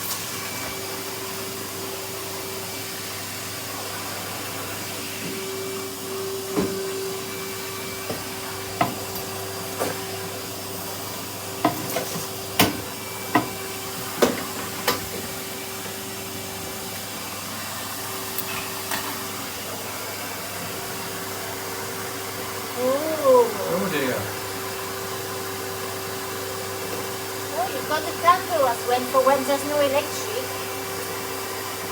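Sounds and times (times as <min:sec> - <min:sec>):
vacuum cleaner running: 0:00.0 - 0:31.9.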